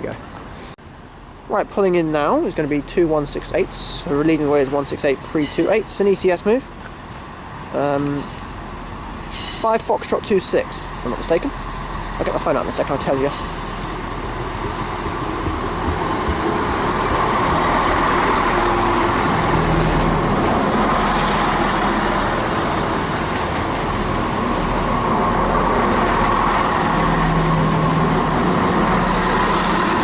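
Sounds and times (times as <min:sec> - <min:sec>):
diesel train engine hum: 0:00.0 - 0:30.0
train wheel noise: 0:01.5 - 0:30.0.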